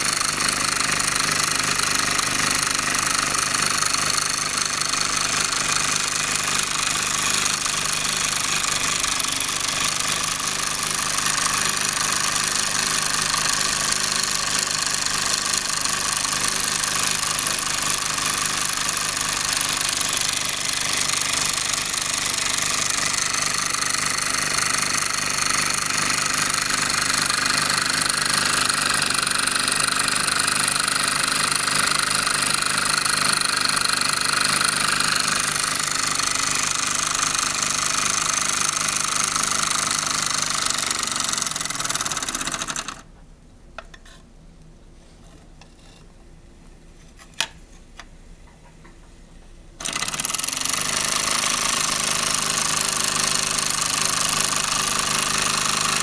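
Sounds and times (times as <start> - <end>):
toy steam engine chuffing: 0.0 - 43.0, 49.8 - 56.0.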